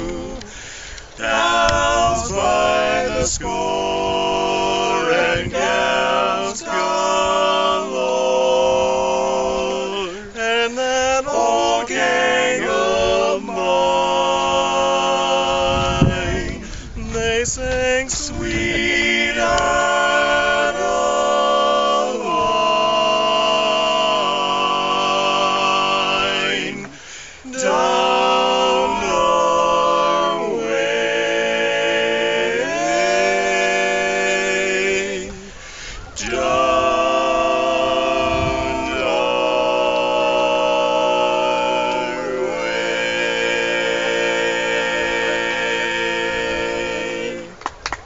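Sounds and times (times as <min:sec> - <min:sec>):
men singing in close harmony: 0:00.0 - 0:47.7.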